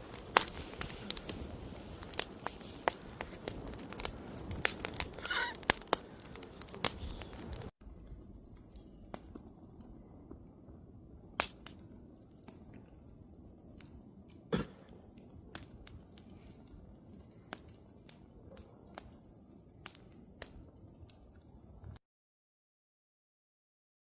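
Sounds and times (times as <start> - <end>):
campfire pops and snaps: 0.0 - 22.0
low rumble of fire: 0.0 - 22.0.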